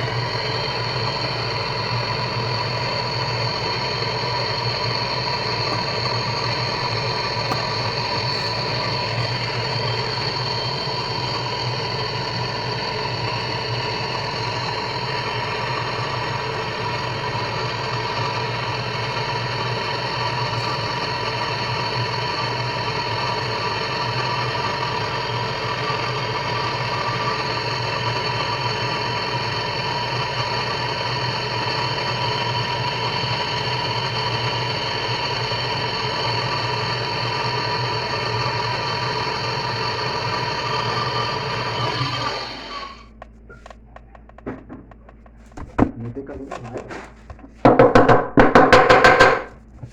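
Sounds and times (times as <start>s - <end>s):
heat gun fan blowing: 0.0s - 45.9s, 46.6s - 49.9s.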